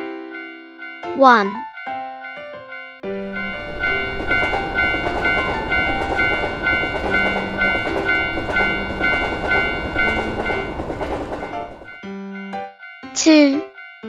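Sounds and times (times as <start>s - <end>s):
railroad crossing bell ringing: 0.0s - 14.0s
train passing with rushing rumble: 1.7s - 14.0s.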